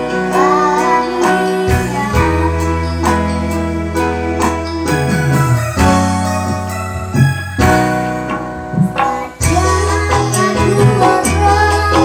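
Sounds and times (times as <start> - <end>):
electronic keyboard chords: 0.0 - 12.0.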